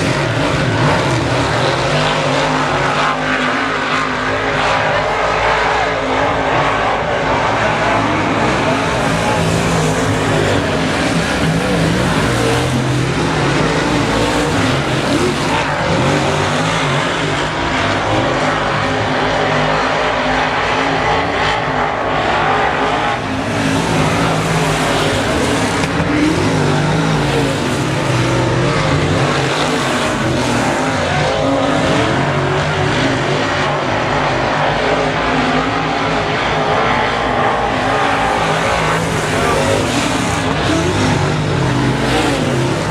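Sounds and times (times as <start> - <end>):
race car engines: 0.0 - 42.9.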